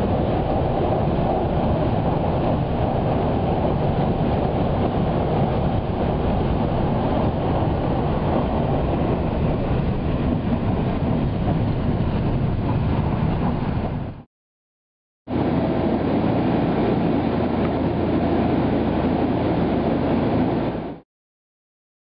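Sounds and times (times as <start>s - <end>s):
train running noise inside cabin: 0.0s - 14.2s, 15.3s - 21.0s.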